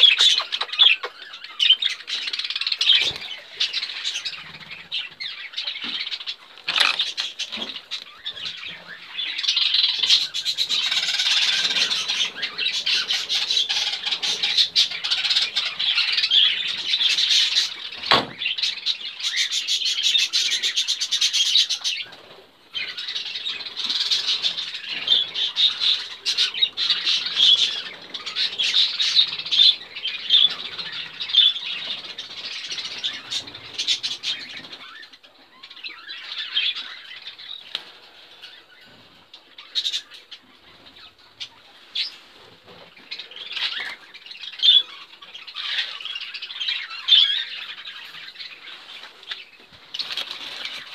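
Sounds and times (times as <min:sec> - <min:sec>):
budgerigars chattering and chirping: 0:00.0 - 0:39.0, 0:43.0 - 0:50.9.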